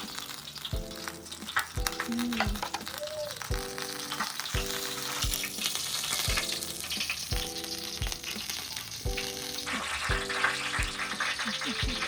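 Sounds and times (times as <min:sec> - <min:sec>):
background music with beat: 0:00.0 - 0:12.0
meat sizzling on a grill: 0:00.0 - 0:12.0.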